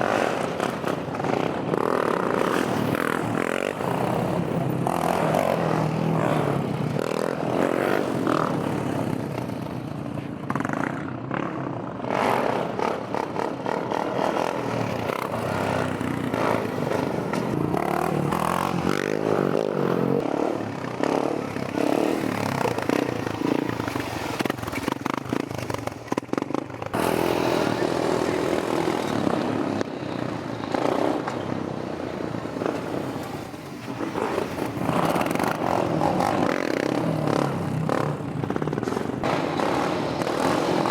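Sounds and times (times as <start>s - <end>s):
motorcycle engines running: 0.0s - 40.9s.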